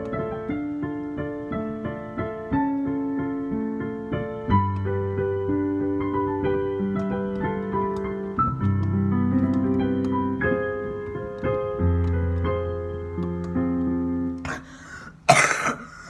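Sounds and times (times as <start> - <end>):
piano music: 0.0 - 15.3.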